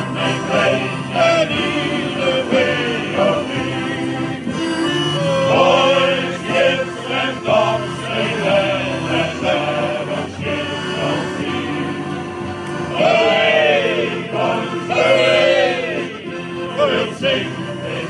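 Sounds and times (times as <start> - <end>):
accordion: 0.0 - 18.0
male choir singing: 0.0 - 18.0.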